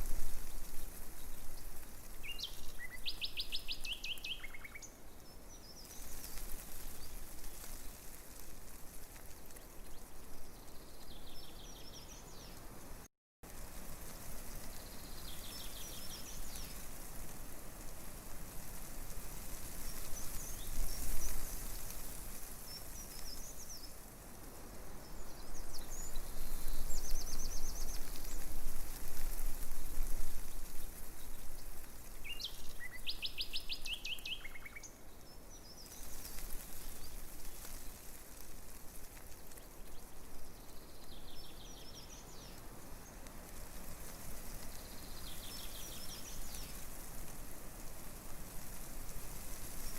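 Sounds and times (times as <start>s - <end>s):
leaves rustling in breeze: 0.0s - 49.9s
songbirds chirping: 0.3s - 13.1s, 14.4s - 17.0s, 18.9s - 47.0s.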